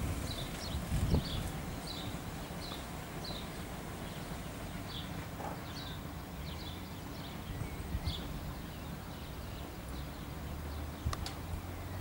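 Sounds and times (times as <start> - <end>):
birds chirping: 0.0 - 12.0
distant diesel locomotive rumble: 0.0 - 12.0.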